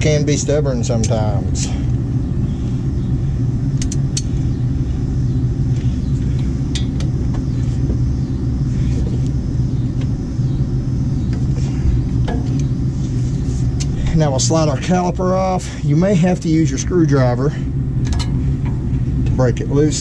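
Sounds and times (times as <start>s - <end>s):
low droning hum: 0.0s - 20.0s.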